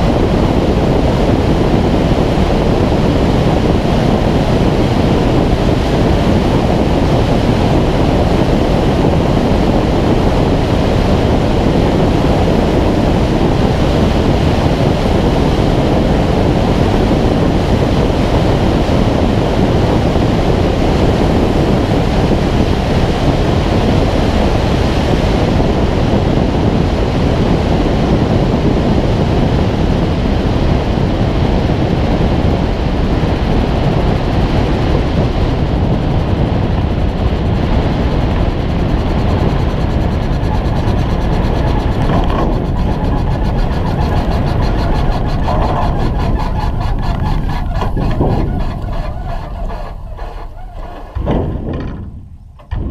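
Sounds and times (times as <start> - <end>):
rushing wind noise: 0.0 - 52.9.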